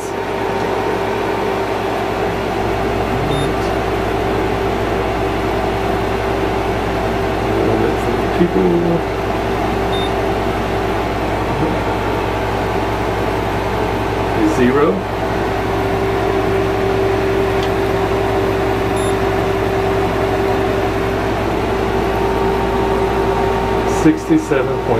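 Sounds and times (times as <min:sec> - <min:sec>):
air conditioner fan and compressor: 0:00.0 - 0:24.9.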